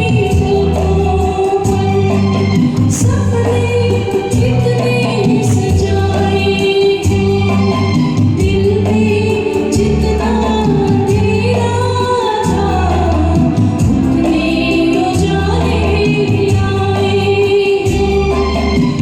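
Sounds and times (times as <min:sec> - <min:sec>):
karaoke backing track: 0:00.0 - 0:19.0
woman singing: 0:00.0 - 0:19.0.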